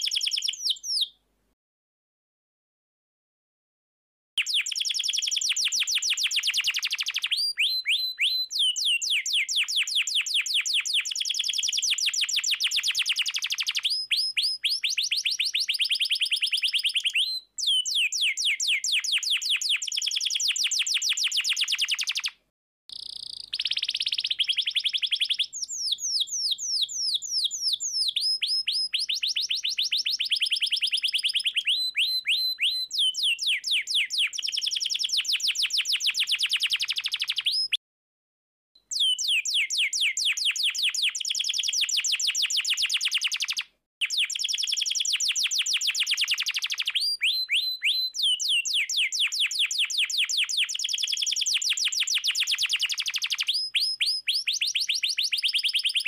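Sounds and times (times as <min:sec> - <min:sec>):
canary singing trills: 0:00.0 - 0:01.2, 0:04.4 - 0:22.3, 0:22.9 - 0:37.8, 0:38.9 - 0:56.0.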